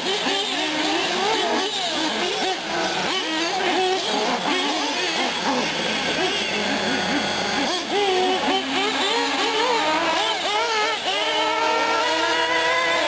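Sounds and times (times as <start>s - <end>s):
model car engines revving: 0.0s - 13.0s.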